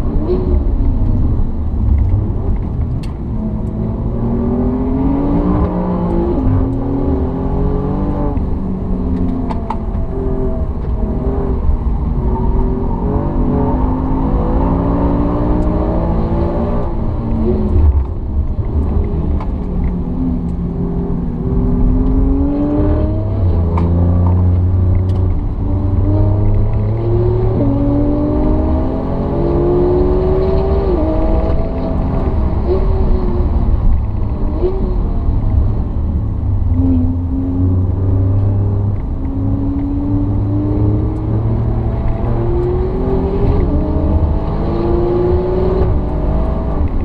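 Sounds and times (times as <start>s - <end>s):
car engine accelerating: 0.0s - 47.0s
tyre and road noise: 0.0s - 47.0s.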